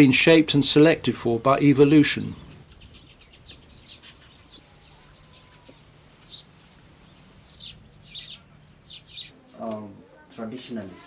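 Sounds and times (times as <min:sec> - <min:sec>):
birds chirping: 0:00.0 - 0:10.5
faint steady low hum: 0:00.0 - 0:11.0.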